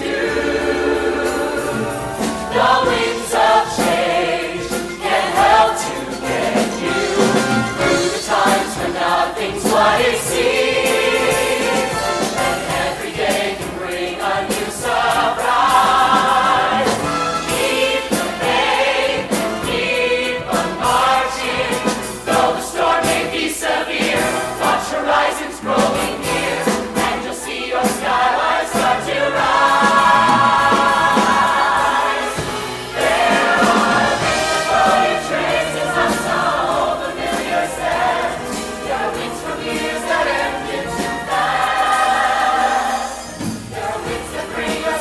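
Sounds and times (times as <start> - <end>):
chorus of men and women singing: 0.0 - 45.0.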